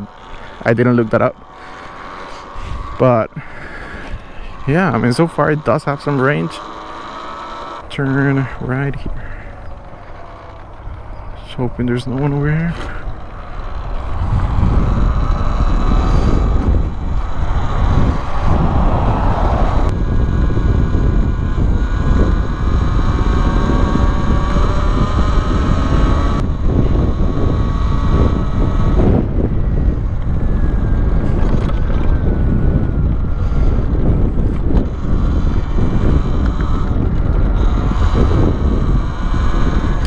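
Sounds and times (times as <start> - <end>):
wind buffeting on microphone: 0.0 - 6.7, 7.8 - 40.0
electric motor whine: 0.0 - 40.0.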